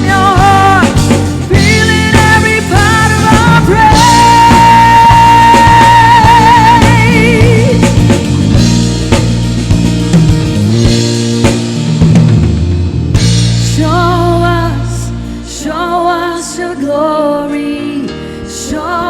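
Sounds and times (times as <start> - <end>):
rock band playing: 0.0 - 16.2.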